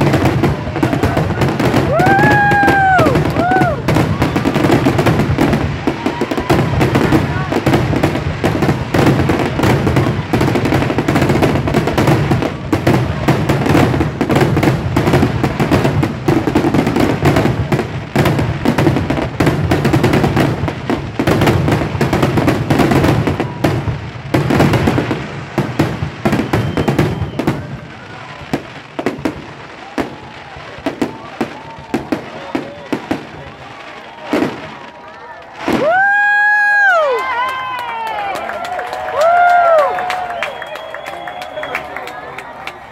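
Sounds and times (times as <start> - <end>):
fireworks crackling: 0.0 - 42.9.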